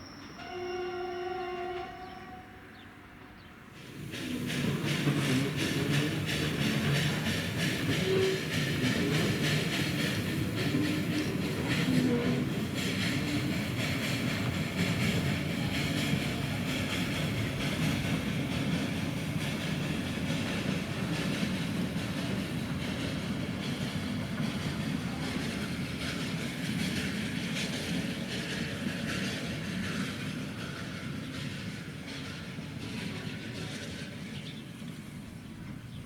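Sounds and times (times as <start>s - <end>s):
electric train on track: 0.0s - 36.0s.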